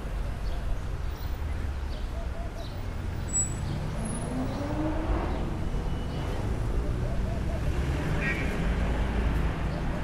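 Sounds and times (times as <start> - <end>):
low rumble of traffic: 0.0 - 10.0.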